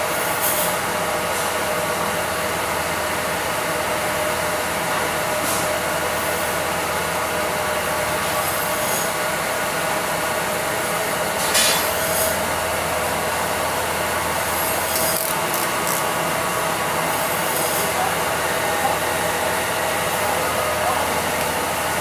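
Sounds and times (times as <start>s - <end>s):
packing machine whirring: 0.0s - 22.0s.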